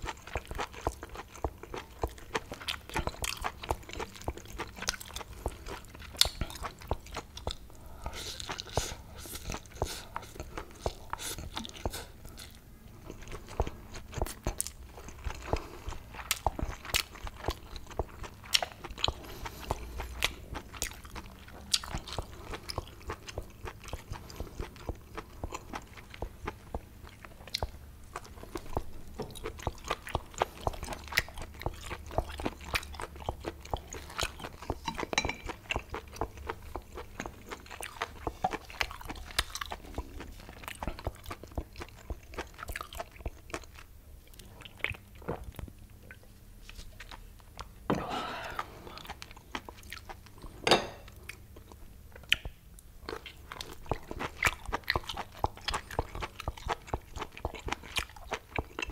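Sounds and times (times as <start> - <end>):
chewing and crunching food: 0.0 - 58.9.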